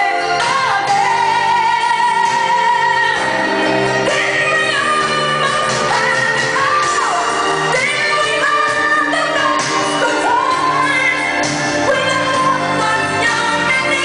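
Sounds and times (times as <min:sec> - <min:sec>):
backing music: 0:00.0 - 0:14.0
woman singing a ballad: 0:00.0 - 0:14.0.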